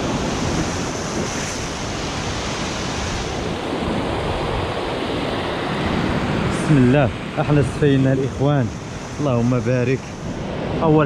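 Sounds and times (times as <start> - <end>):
surf breaking over rocks: 0.0 - 11.0
wind blowing on the microphone: 0.0 - 11.0.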